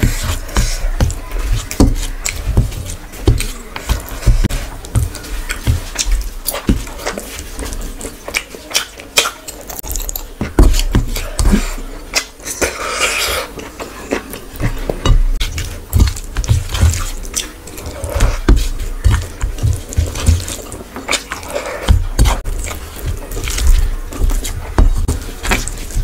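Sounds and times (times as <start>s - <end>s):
fingers squishing rice: 0.0s - 26.0s
wet chewing and smacking: 0.0s - 26.0s.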